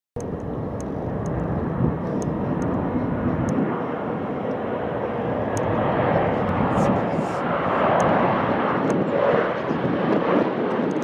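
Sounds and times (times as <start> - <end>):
jet engine rushing noise: 0.2 - 11.0.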